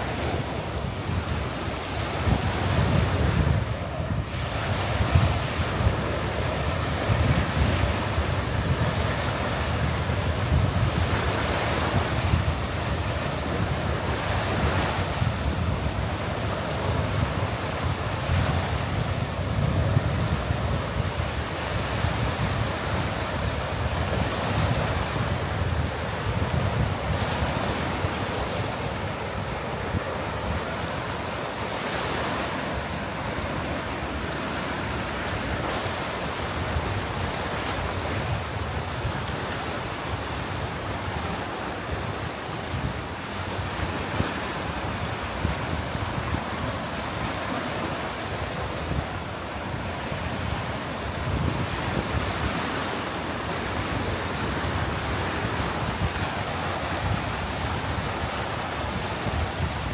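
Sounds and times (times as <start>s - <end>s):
waves washing on gravel shore: 0.0s - 59.9s
wind buffeting microphone: 0.0s - 59.9s.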